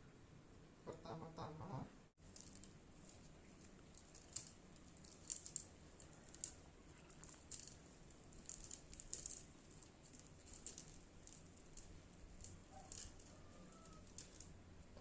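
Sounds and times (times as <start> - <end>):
quiet room hiss: 0.0 - 15.0
bamboo sticks clicking: 2.3 - 15.0.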